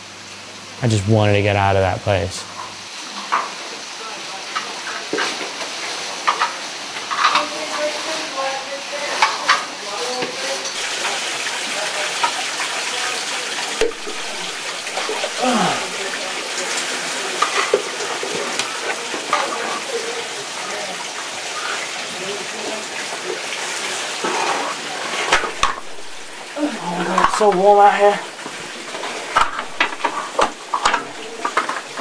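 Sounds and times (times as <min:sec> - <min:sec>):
stream water splashing: 0:02.9 - 0:32.0.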